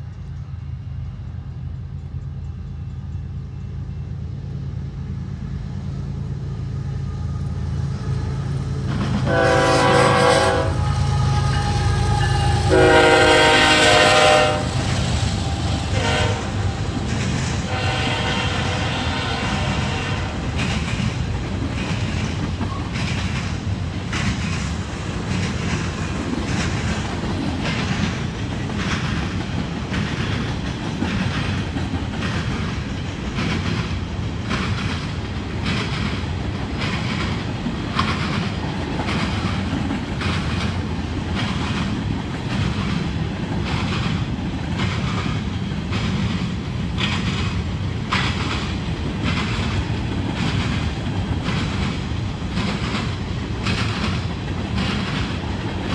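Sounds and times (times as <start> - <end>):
wheels clickety-clack on rail joints: 0.0 - 4.2, 7.9 - 55.9
freight train rumbling past: 0.0 - 55.9.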